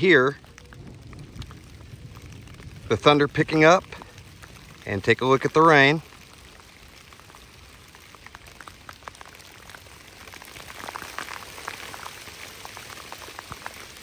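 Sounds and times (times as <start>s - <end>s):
rain falling on a lake: 0.0s - 14.0s
raindrops tapping: 0.0s - 14.0s.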